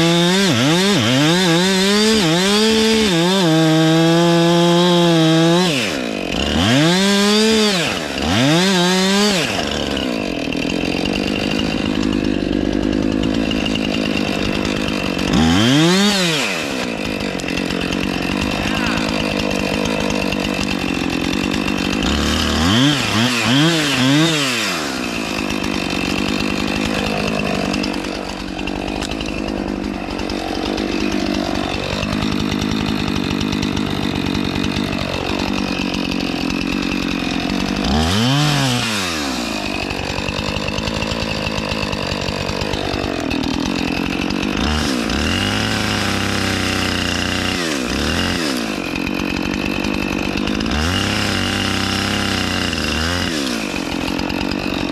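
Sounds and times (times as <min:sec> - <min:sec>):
chainsaw cutting tree trunk: 0:00.0 - 0:54.9.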